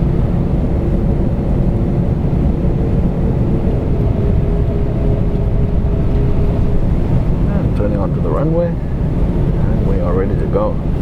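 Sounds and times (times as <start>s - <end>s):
faint steady hum: 0.0s - 11.0s
jet engines idling cabin rumble: 0.0s - 11.0s.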